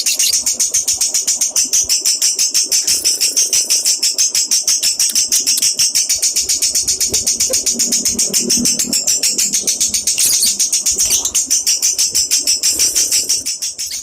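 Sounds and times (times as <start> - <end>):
bird chattering high chirps: 0.0 - 14.0.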